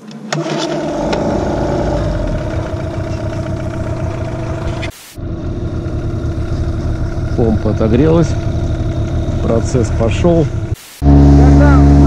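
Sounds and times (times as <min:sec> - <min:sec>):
outboard boat motor idling: 0:00.4 - 0:12.0.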